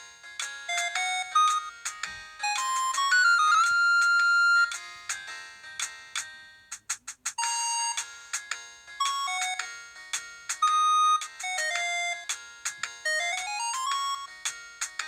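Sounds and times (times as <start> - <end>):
phone ringtone melody: 0.0 - 6.8, 7.4 - 15.0.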